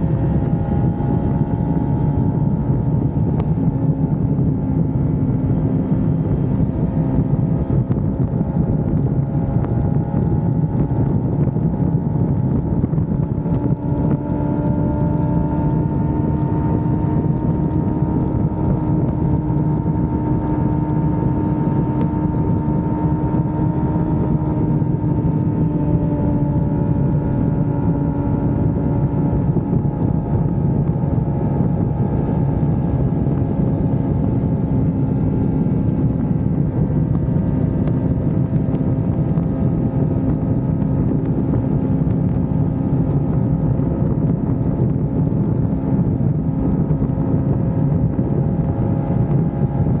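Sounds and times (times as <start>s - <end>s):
motorcycle engine cruising: 0.0s - 50.0s
wind rushing over microphone: 0.0s - 50.0s.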